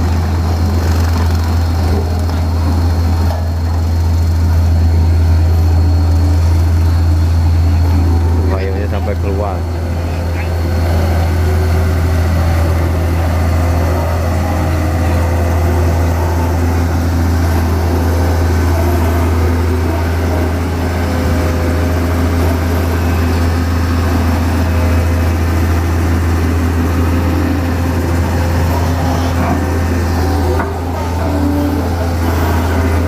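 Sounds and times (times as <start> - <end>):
road compactor diesel engine running: 0.0 - 33.0.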